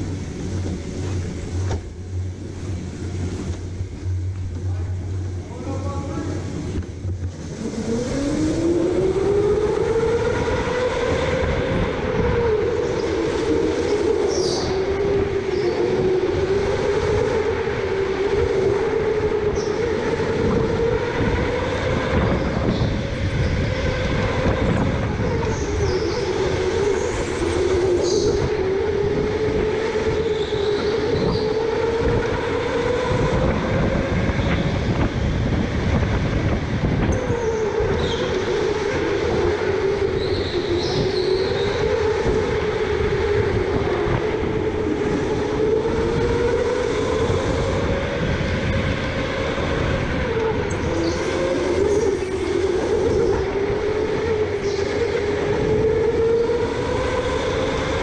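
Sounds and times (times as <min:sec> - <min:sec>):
go-kart electric motor whining: 0:00.0 - 0:58.0
kart rumble on track: 0:00.0 - 0:58.0.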